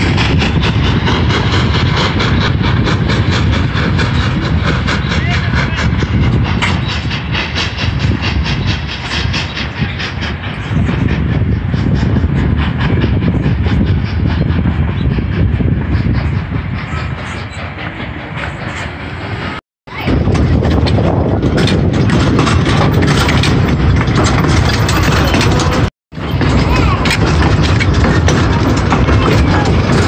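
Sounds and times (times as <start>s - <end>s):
train wheels rumbling and clacking: 0.0s - 30.0s.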